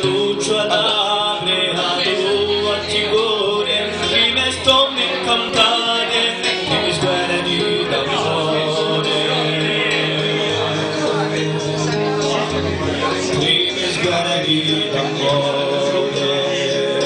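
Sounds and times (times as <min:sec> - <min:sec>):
acoustic guitar: 0:00.0 - 0:17.0
man singing into a microphone: 0:00.0 - 0:17.0.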